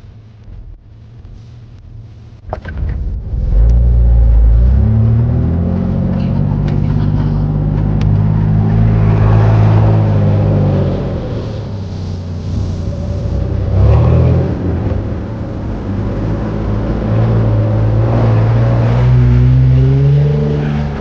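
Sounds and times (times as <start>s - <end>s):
off-road vehicle engine revving: 2.5s - 21.0s.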